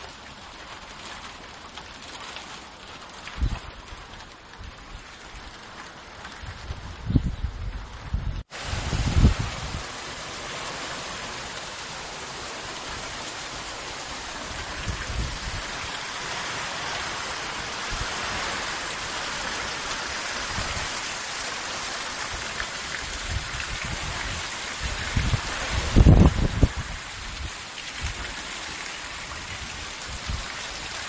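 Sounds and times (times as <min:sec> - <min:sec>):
heavy rain pouring: 0:00.0 - 0:31.0
wind gusting on microphone: 0:03.2 - 0:21.2, 0:21.9 - 0:28.3, 0:29.1 - 0:31.0.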